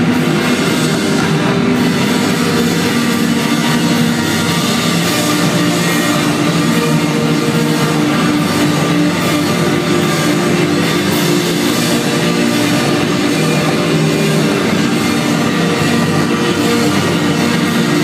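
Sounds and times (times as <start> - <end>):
drums: 0.0 - 18.0
electric guitars sustained notes: 0.0 - 18.0.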